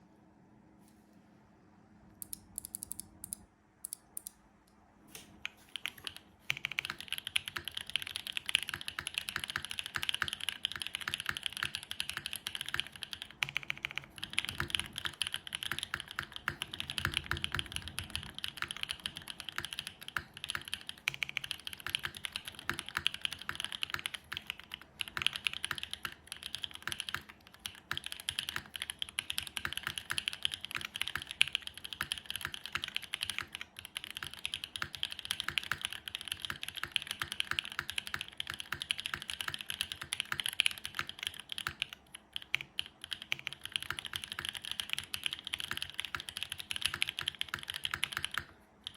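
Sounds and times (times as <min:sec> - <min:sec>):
typing on mechanical keyboard: 0:02.2 - 0:04.3, 0:05.4 - 0:48.9.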